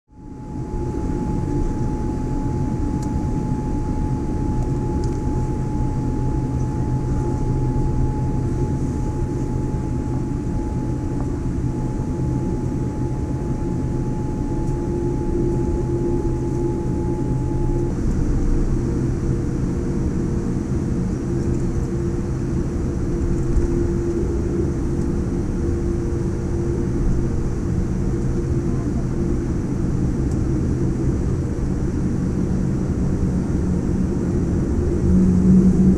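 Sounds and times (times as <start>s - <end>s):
airplane cabin engine rumble: 0.1s - 35.9s
constant hum tones: 0.1s - 35.9s.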